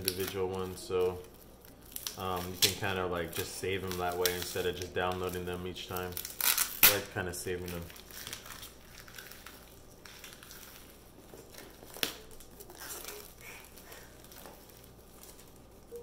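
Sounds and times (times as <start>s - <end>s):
plastic film crinkling and rustling: 0.0s - 16.0s.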